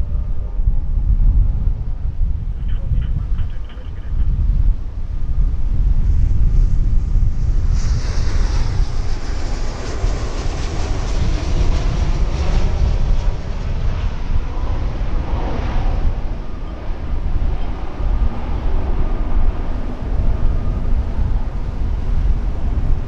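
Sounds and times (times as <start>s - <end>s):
propeller plane engines running: 0.0s - 23.0s
wind buffeting microphone: 0.0s - 23.0s.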